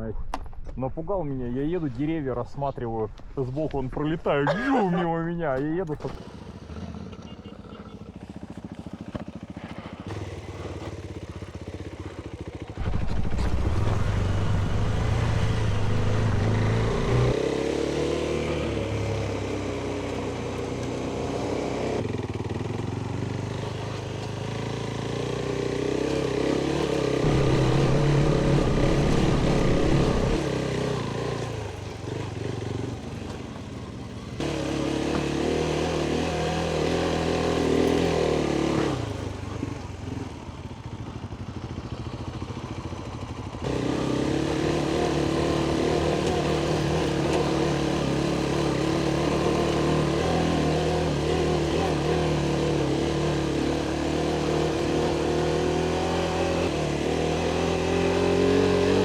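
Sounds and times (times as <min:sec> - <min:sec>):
motorcycle engine revving: 0:05.6 - 0:59.0.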